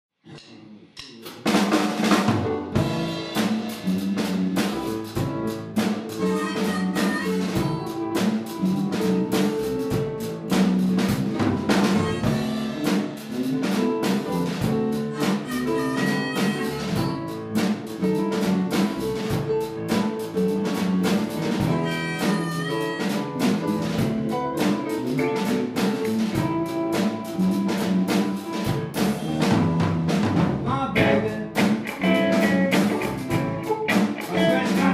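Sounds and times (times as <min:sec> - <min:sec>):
blues band playing: 0:01.3 - 0:34.9
snare and bass drum hits: 0:01.3 - 0:34.9.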